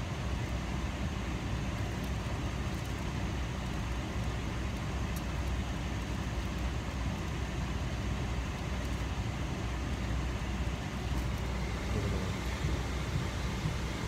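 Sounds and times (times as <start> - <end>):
airliner cabin rumble and hiss: 0.0 - 14.0.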